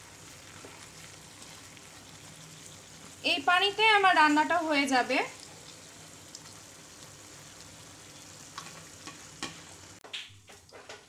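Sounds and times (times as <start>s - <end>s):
chicken and potatoes sizzling in pan: 0.0s - 11.0s.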